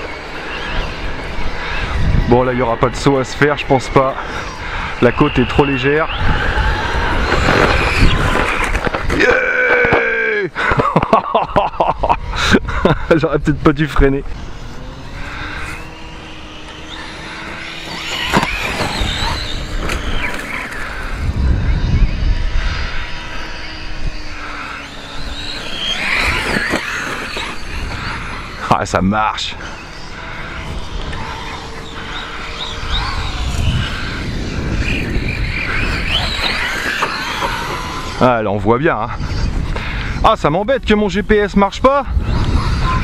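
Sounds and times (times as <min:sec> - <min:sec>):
electric motor whining: 0:00.0 - 0:11.2, 0:12.0 - 0:43.0.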